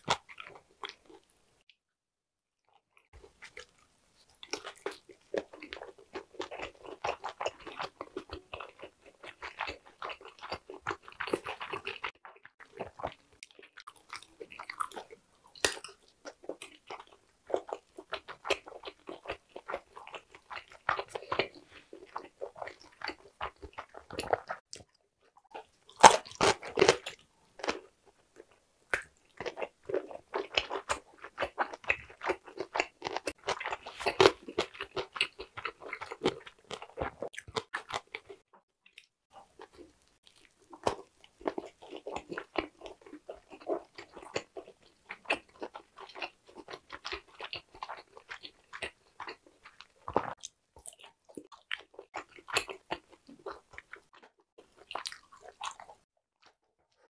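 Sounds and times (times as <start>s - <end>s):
wet chewing mouth sounds: 0.0s - 1.4s, 3.0s - 57.0s
biting food: 3.2s - 56.5s.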